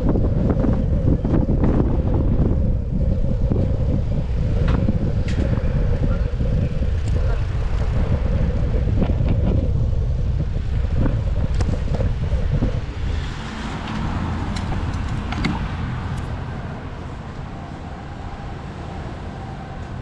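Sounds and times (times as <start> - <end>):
bicycle road rumble: 0.0 - 20.0.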